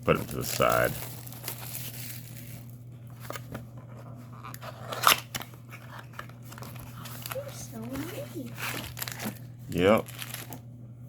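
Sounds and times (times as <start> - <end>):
foil packs crinkling: 0.0 - 3.5, 4.5 - 10.6
steady low hum: 0.0 - 11.0.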